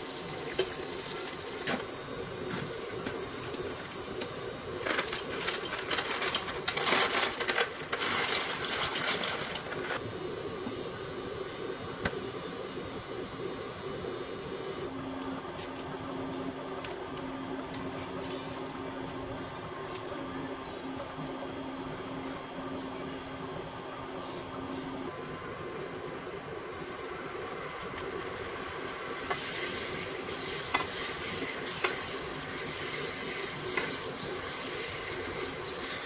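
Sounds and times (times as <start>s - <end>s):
steady low hum: 0.1s - 36.0s.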